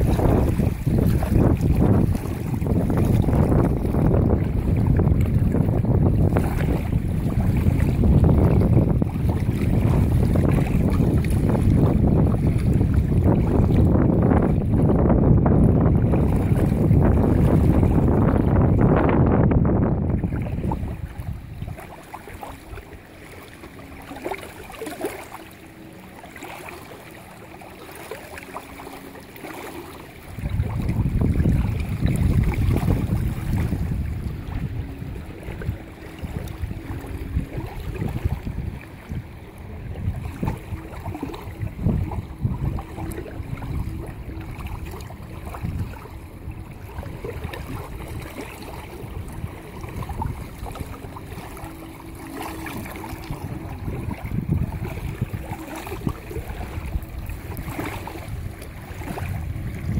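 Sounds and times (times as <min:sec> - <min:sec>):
wind buffeting microphone: 0:00.0 - 0:27.0, 0:29.4 - 0:59.9
small waves lapping: 0:00.0 - 0:59.9.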